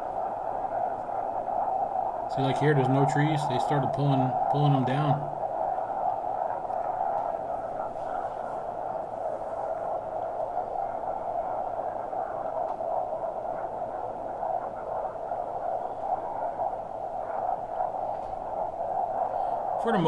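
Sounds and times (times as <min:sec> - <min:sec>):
rushing wind: 0:00.0 - 0:20.0.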